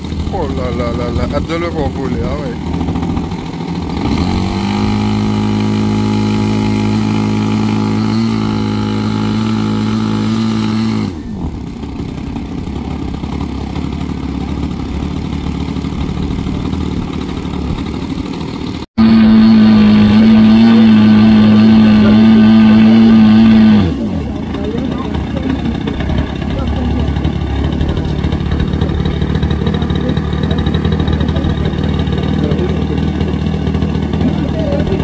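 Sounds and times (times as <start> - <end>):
model plane engine droning: 0.0 - 35.0.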